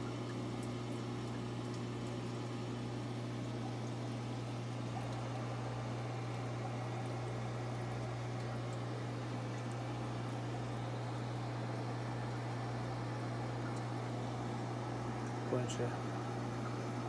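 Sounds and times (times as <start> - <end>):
aquarium water bubbling: 0.0 - 17.0
steady low hum: 0.0 - 17.0.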